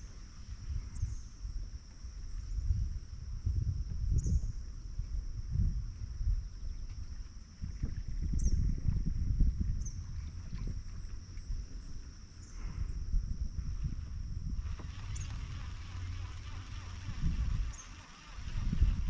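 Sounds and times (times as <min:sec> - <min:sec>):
insects chirring: 0:00.0 - 0:19.0
low uneven rumble: 0:00.0 - 0:19.0.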